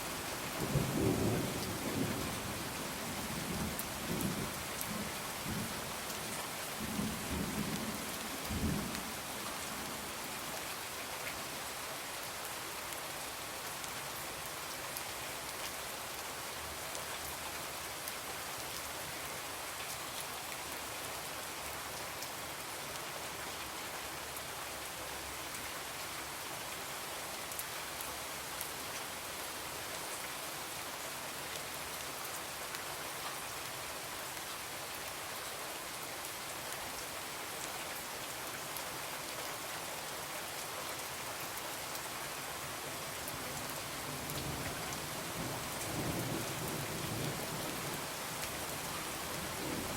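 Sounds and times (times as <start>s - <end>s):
rain falling on a window: 0.0s - 49.9s.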